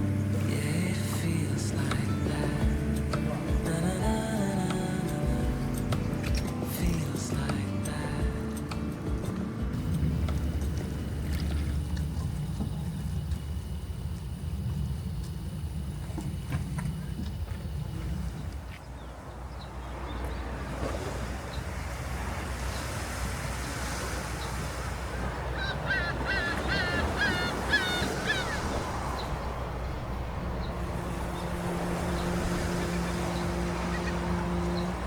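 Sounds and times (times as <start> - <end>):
low steady hum: 0.0 - 20.8, 27.0 - 35.0
bird calling: 0.0 - 35.0
sea waves washing: 0.0 - 35.0.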